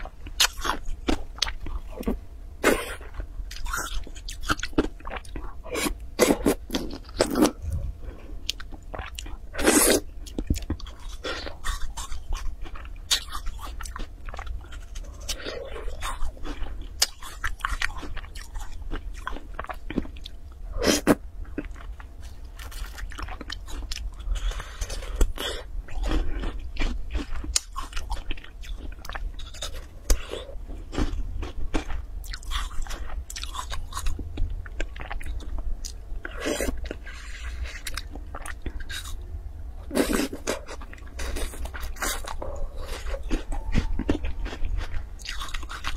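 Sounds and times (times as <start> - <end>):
crunchy chewing of food: 0.0 - 45.9.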